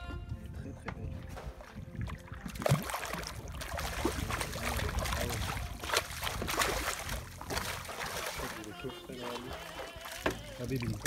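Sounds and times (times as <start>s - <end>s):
fish thrashing water splashing: 1.3s - 11.0s.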